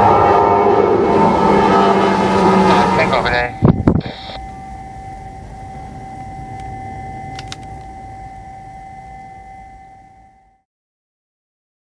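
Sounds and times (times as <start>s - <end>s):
jet airliner engines rumbling: 0.0s - 9.9s.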